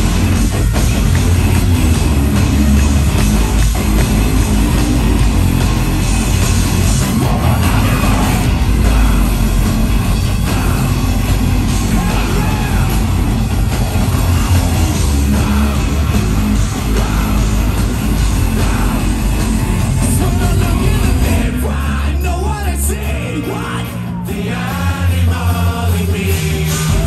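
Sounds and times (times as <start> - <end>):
rock band playing: 0.0 - 27.0
singer yelling and singing: 1.4 - 27.0.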